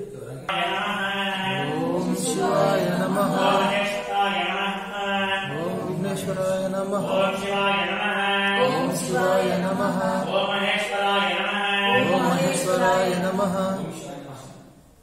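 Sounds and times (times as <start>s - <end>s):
person chanting mantras: 0.5s - 14.4s.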